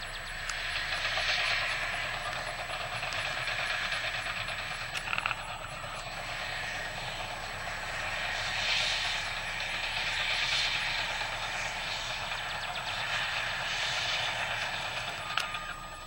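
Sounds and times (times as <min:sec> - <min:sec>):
heavy machinery running: 0:00.0 - 0:16.0.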